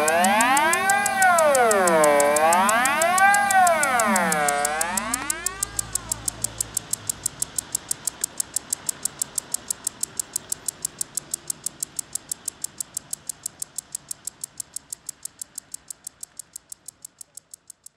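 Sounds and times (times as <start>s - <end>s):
sharp electronic clicks: 0.0s - 17.9s.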